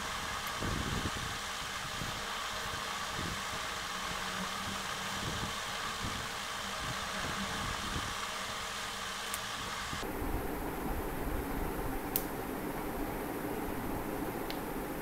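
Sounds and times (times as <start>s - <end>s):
small fan whirring: 0.0s - 15.0s.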